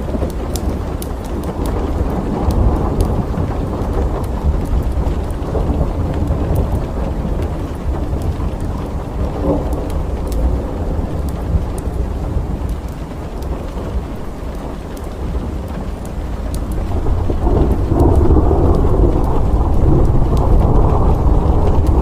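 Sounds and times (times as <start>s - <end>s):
raindrops ticking nearby: 0.0s - 22.0s
steady rain: 0.0s - 22.0s
thunder rumbling: 0.0s - 22.0s.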